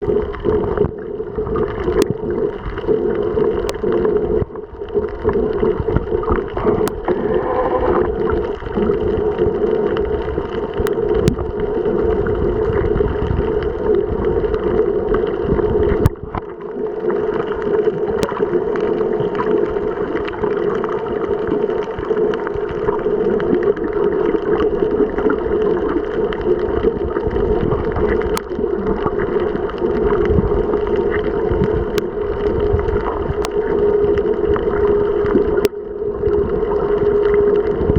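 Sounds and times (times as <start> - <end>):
steady underwater hum: 0.0 - 37.9
water noise: 0.0 - 37.9.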